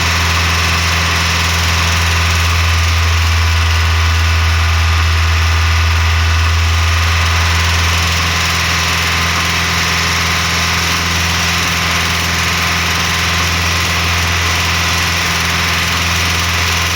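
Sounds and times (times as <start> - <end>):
car engine running steadily: 0.0 - 16.9.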